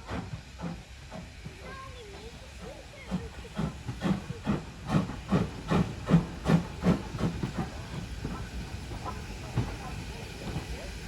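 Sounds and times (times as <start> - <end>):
steam engine exhaust chuffing: 0.0 - 11.0.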